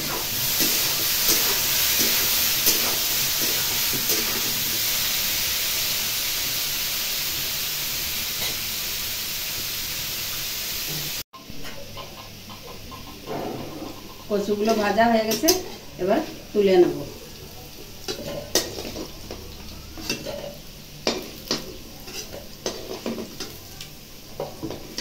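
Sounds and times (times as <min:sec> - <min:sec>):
taro sizzling in hot oil: 0:00.0 - 0:25.0.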